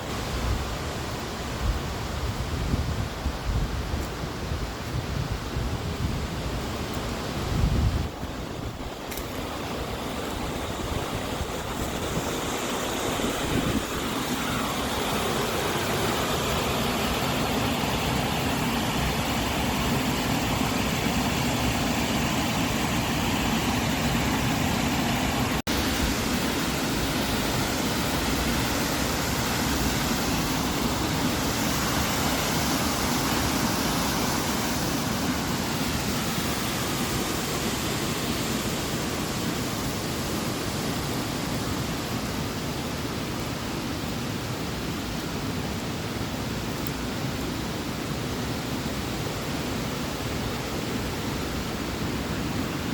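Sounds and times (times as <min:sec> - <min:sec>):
waterfall rushing: 0:06.2 - 0:52.9.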